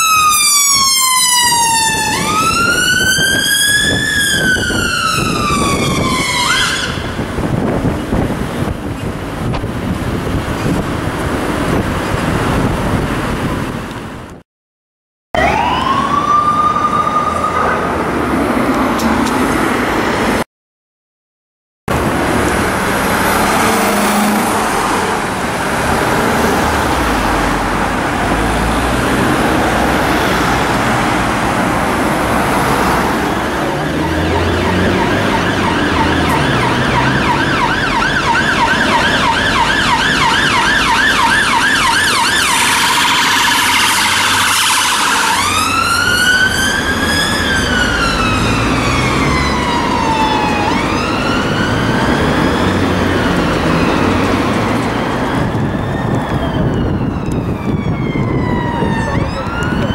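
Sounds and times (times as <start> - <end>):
ambulance siren: 0.0 - 8.7, 15.4 - 19.4, 22.7 - 59.9
road noise: 0.0 - 14.4, 15.4 - 20.5, 21.9 - 59.9.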